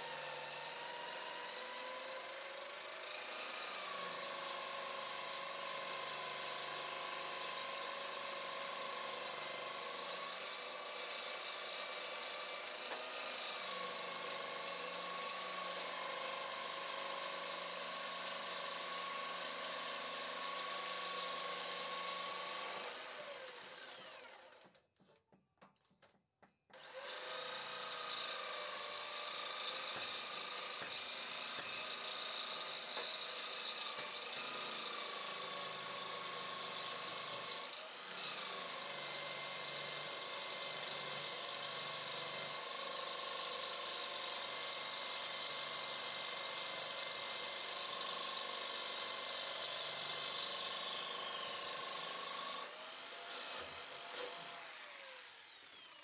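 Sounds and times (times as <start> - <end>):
jigsaw cutting metal: 0.0 - 25.1, 26.0 - 56.0.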